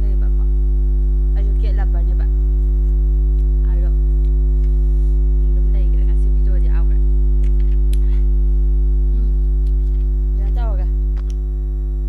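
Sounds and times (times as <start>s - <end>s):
loud electrical mains hum: 0.0s - 12.0s.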